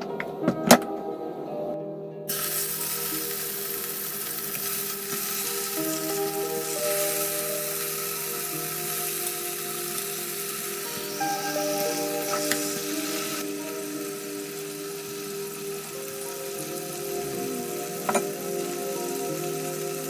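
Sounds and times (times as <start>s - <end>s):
soft background music: 0.0s - 20.0s
food sizzling in hot oil: 2.3s - 20.0s.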